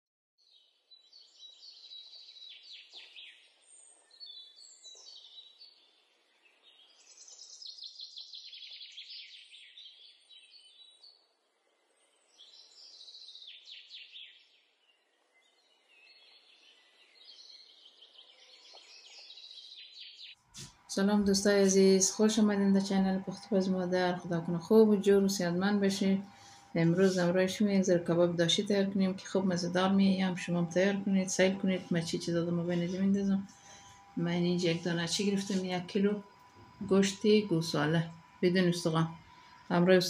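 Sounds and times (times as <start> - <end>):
songbirds chirping and trilling: 0.4 - 40.0.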